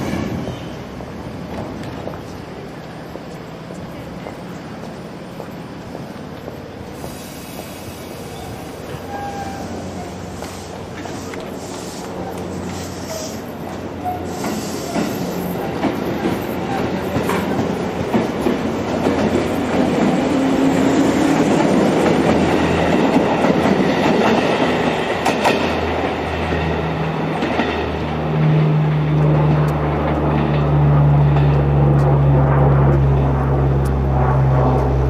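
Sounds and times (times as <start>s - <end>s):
electric train running on rails: 0.0s - 35.0s.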